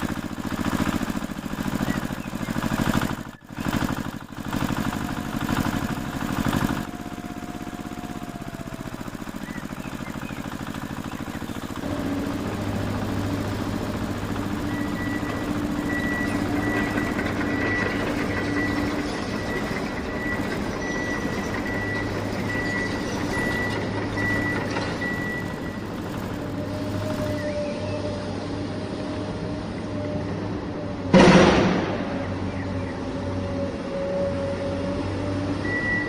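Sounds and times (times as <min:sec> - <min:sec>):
motor humming: 0:00.0 - 0:31.1.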